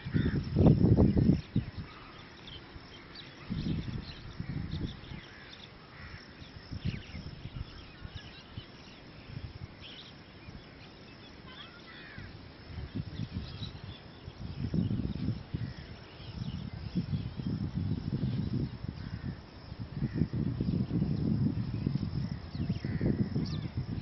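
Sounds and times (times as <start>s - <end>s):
wind buffeting microphone: 0.0s - 10.8s, 12.0s - 24.0s.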